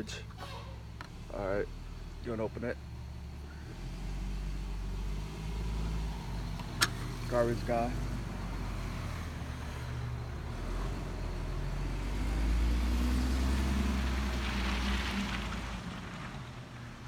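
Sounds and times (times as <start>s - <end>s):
garbage truck engine rumbling: 0.0s - 17.0s.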